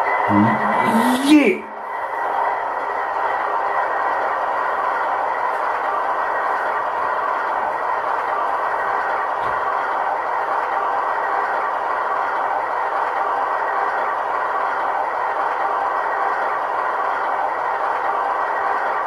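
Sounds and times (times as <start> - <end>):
model locomotive diesel engine sound: 1.8 - 19.0.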